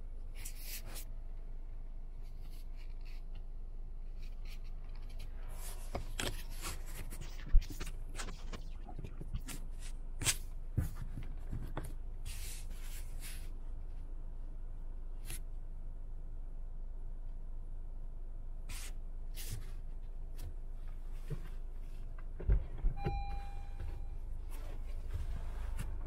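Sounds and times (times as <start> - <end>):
car rumble: 1.1 - 26.0.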